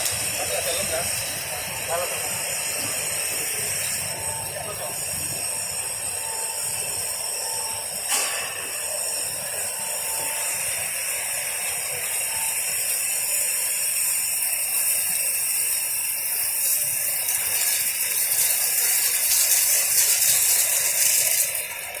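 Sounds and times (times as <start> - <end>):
thin high whines: 0.0 - 21.6
machine hiss: 0.0 - 22.0.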